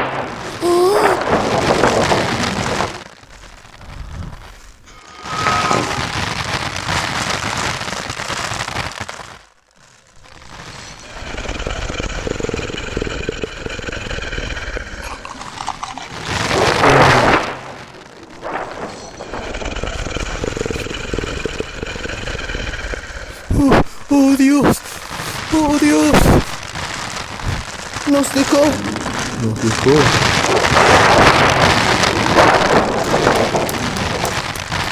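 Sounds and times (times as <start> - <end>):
rain-like hiss: 0.0 - 34.9
rough noise burst: 0.0 - 34.9.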